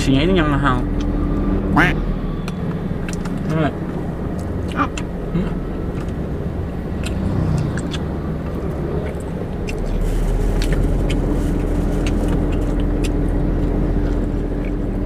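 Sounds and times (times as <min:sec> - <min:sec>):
car cabin low hum: 0:00.0 - 0:15.0
mid-pitched hum: 0:00.0 - 0:15.0.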